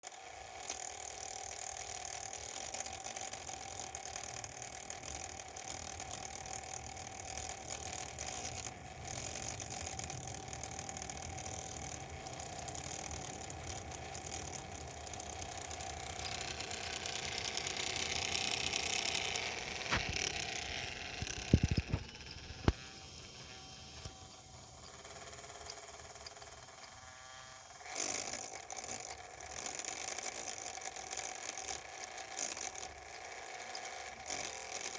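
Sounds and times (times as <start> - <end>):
laptop fan rattling and grinding: 0.0 - 34.9.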